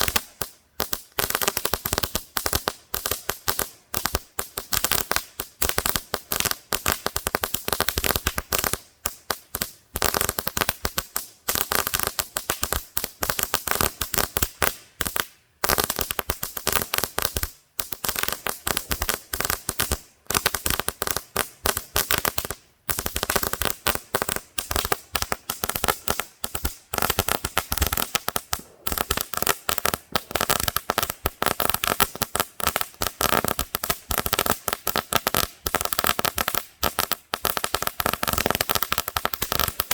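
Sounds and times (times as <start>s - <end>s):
crackling firework: 0.0s - 39.9s.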